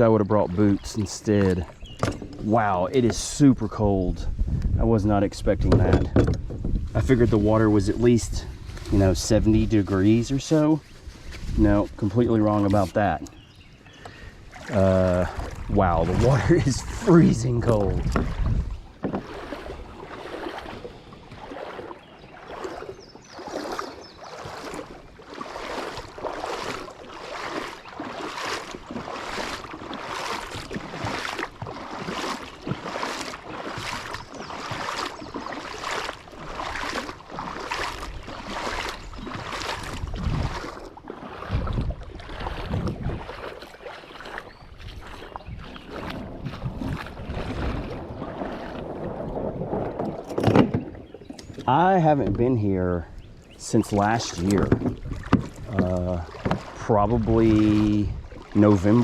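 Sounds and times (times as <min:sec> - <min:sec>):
wind rumble on microphone: 0:00.4 - 0:12.4, 0:14.8 - 0:24.9, 0:33.6 - 0:59.0
kayak paddle splashing in water: 0:05.6 - 0:59.0.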